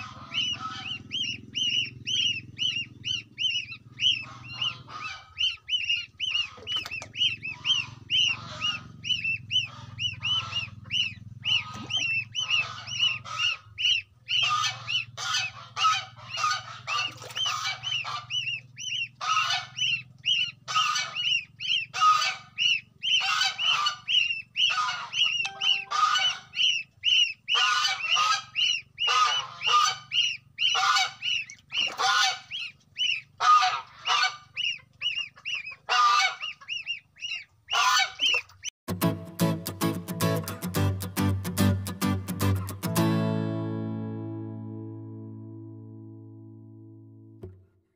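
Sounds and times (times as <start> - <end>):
goslings peeping: 0.0 - 38.7.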